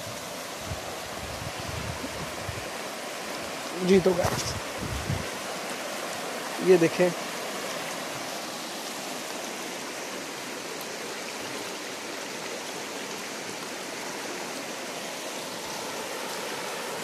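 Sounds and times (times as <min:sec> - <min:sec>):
river water rushing over stones: 0:00.0 - 0:17.0.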